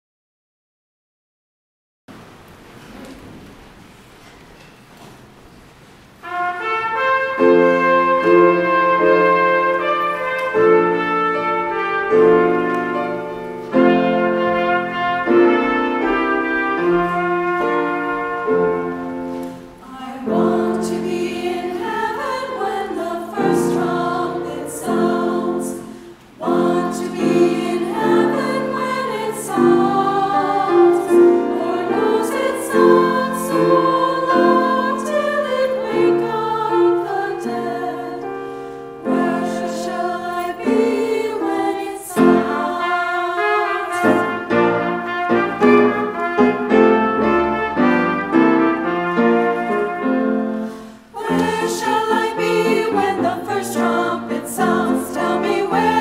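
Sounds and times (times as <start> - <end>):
women's choir singing: 7.0 - 46.2, 47.8 - 56.0.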